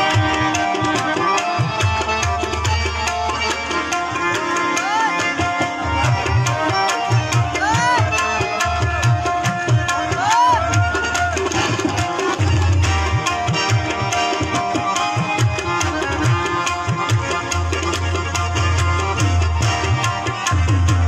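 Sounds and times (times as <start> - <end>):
tabla playing fast beat: 0.0 - 21.0.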